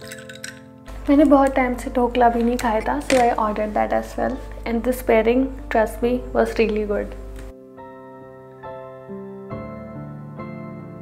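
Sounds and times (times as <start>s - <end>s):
gentle keyboard chords: 0.0s - 11.0s.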